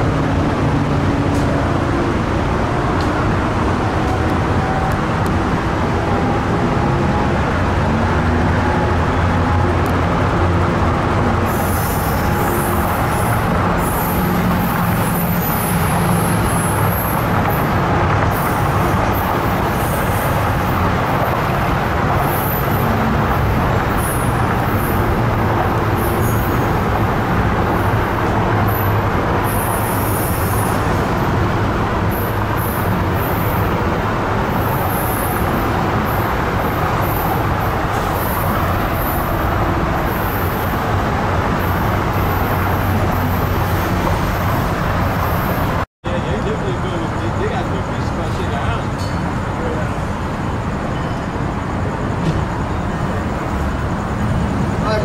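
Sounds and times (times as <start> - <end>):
diesel train engine drone: 0.0 - 55.0
wheels squeaking on rails: 0.0 - 55.0.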